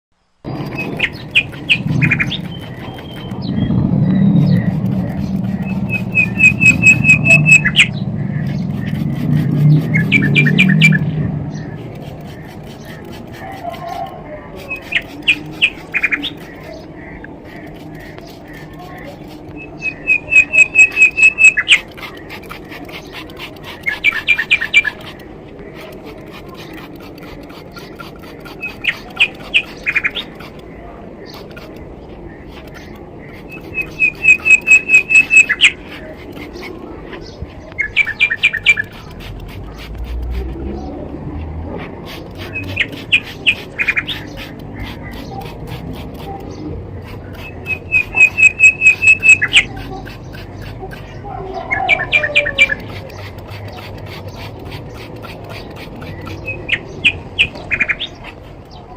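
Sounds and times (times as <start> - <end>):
bird chirping: 0.4 - 41.2, 41.8 - 58.9.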